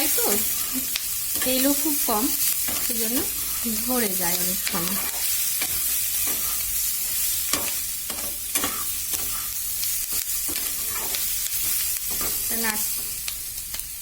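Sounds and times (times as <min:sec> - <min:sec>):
chicken and onions sizzling in pan: 0:00.0 - 0:14.0.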